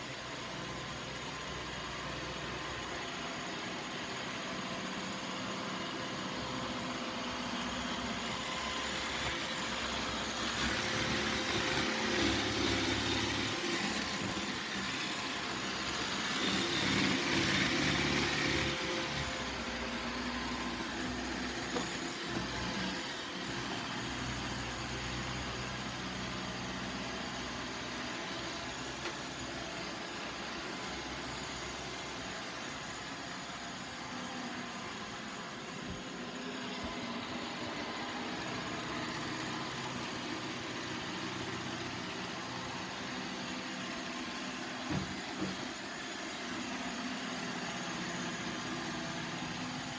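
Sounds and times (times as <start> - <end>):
robot vacuum whirring: 0.6 - 49.9.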